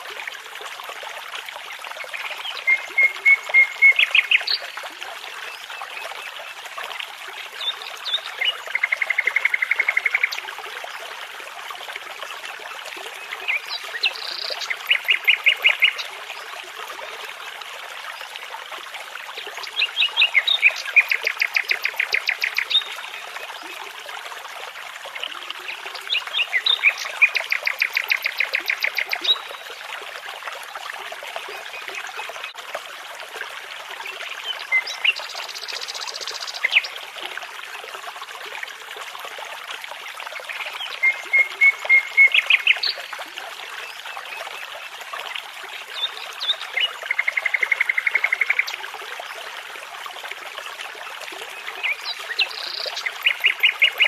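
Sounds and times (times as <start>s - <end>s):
brook running: 0.0s - 54.0s.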